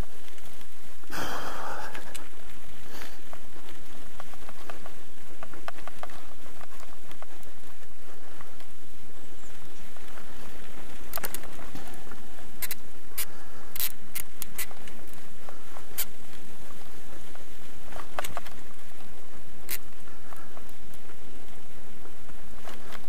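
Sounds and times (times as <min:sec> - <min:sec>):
bicycle tyres on sandy dirt: 0:00.0 - 0:23.0
bike clicks and rattles: 0:00.0 - 0:23.0.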